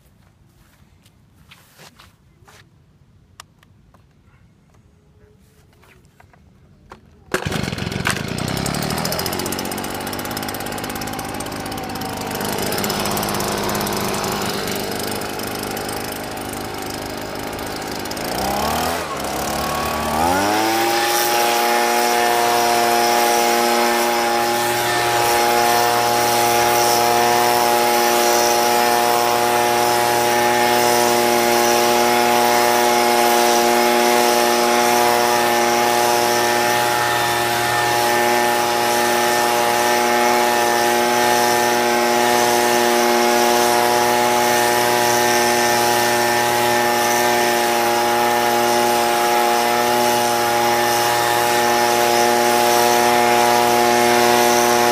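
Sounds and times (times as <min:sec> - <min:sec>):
leaf blower engine running: 0:07.3 - 0:54.9.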